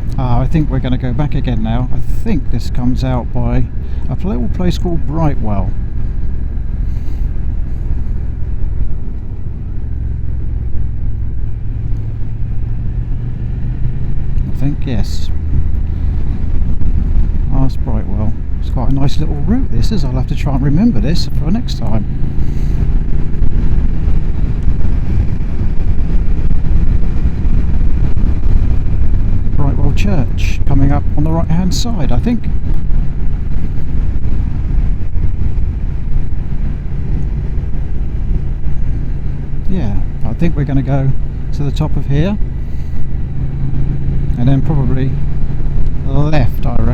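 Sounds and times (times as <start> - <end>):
motorcycle engine rumble: 0.0 - 46.9
wind noise on microphone: 0.0 - 46.9.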